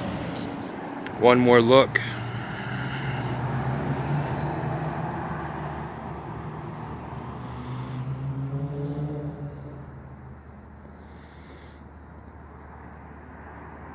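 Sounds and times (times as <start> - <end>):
passing motor vehicle: 0.0 - 13.9.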